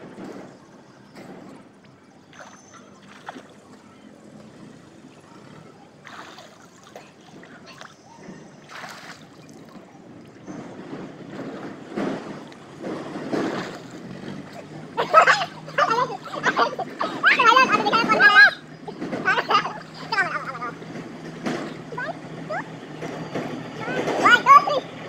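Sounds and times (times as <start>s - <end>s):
water splashing in pool: 0.0s - 22.6s.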